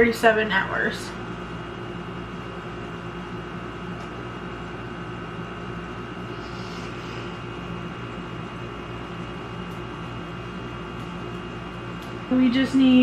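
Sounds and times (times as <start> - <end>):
appliance humming: 0.0 - 13.0.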